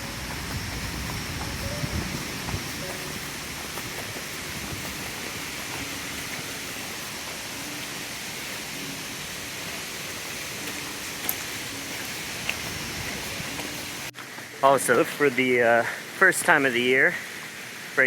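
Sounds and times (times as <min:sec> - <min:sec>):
rain falling on a car: 0:00.0 - 0:18.0.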